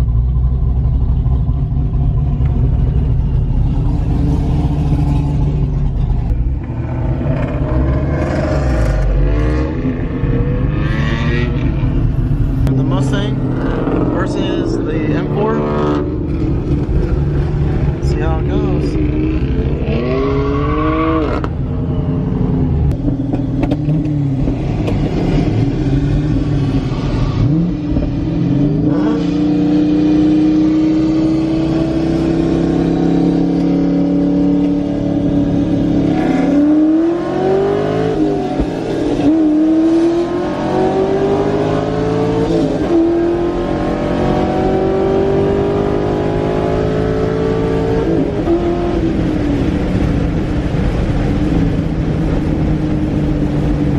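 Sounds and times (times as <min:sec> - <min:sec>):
muscle car engine revving: 0:00.0 - 0:21.6, 0:22.9 - 0:53.9.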